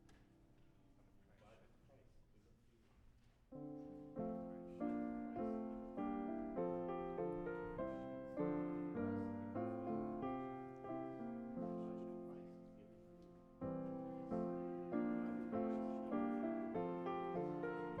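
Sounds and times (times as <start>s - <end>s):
piano playing slow chords: 3.6s - 18.0s.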